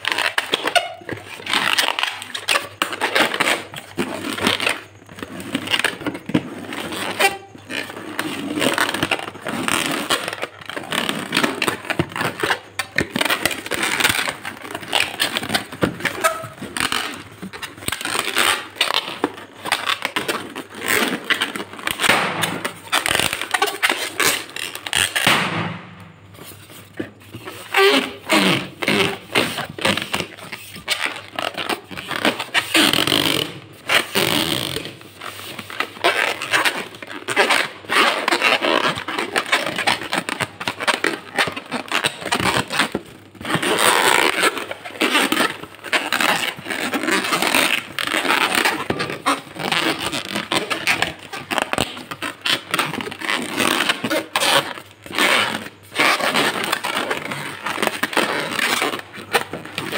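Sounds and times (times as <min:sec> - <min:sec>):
hands rubbing latex balloons: 0:00.1 - 0:59.9.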